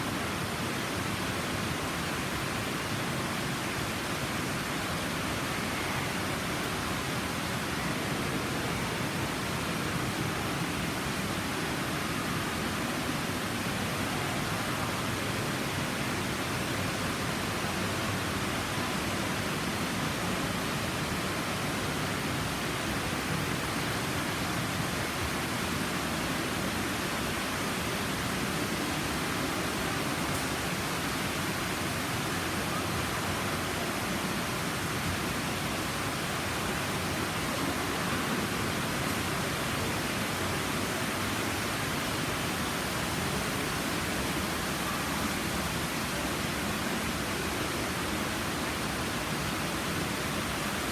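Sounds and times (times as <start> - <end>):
water falling in waterfall: 0.0 - 50.9.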